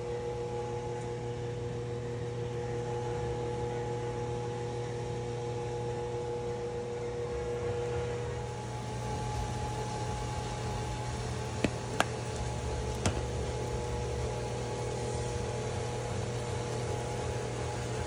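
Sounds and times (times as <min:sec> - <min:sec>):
mechanical hum and whir: 0:00.0 - 0:18.0.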